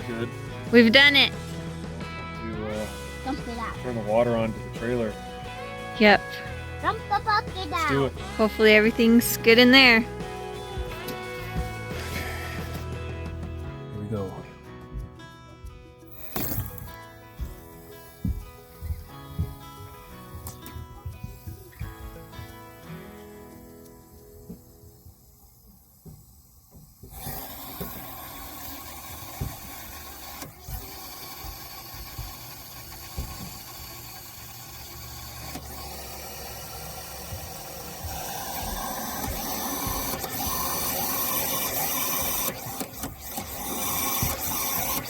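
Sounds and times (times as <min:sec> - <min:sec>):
pump humming: 0:00.0 - 0:13.8, 0:16.1 - 0:45.0.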